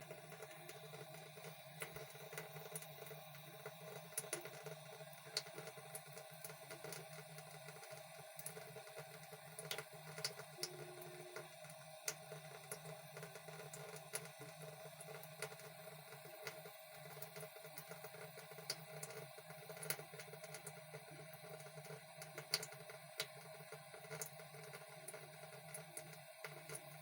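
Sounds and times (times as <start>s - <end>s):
tap water running into sink: 0.0s - 27.0s.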